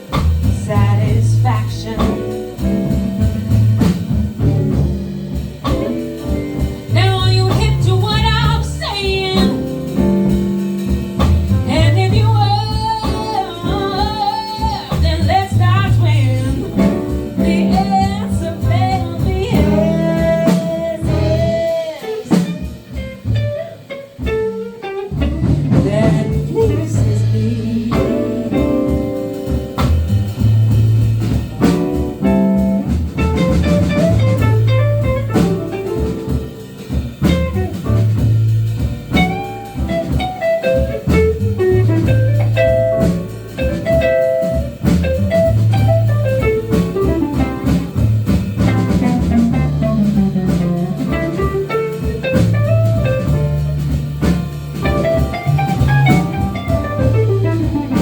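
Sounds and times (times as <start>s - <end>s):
bass line: 0.0s - 58.0s
drum kit steady beat: 0.0s - 58.0s.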